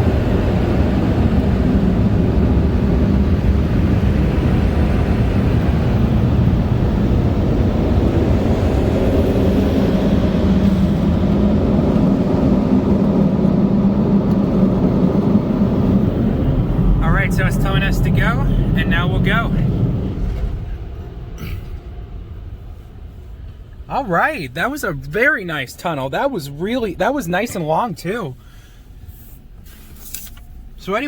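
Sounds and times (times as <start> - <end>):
car wash dryers blowing air: 0.0 - 31.0.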